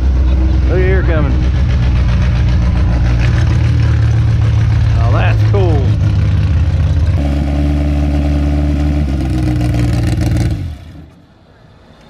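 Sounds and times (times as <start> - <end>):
car engine running loudly: 0.0 - 11.2.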